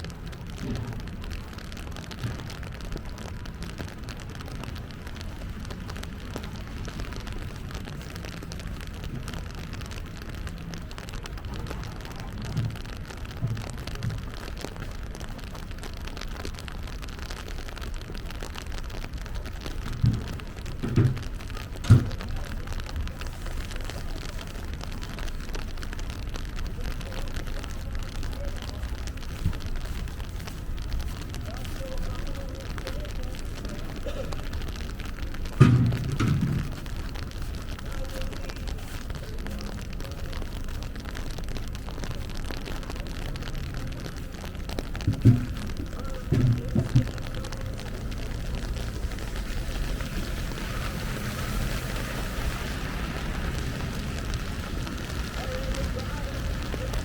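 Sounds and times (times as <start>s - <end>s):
rain low rumble: 0.0s - 57.0s
raindrop ticks: 0.0s - 57.0s.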